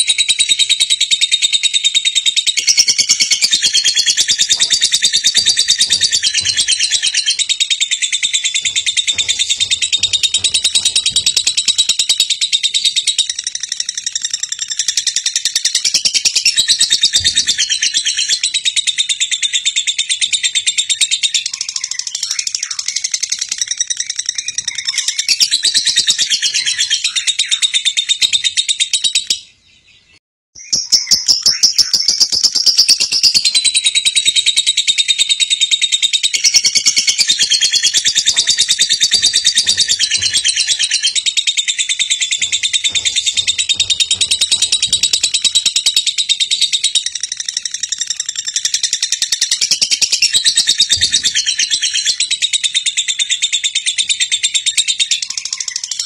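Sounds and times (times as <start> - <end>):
high-pitched chirping: 0.0 - 29.5, 30.6 - 56.0.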